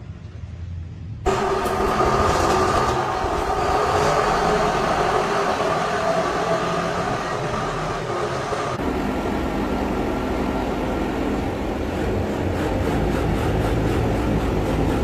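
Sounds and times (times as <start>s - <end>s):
truck engine rumbling: 1.3s - 15.0s.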